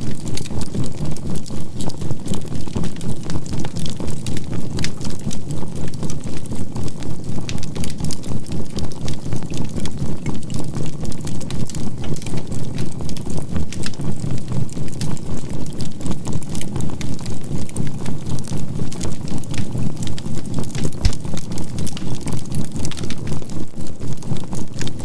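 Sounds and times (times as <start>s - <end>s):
charcoal crackling in campfire: 0.0s - 25.0s.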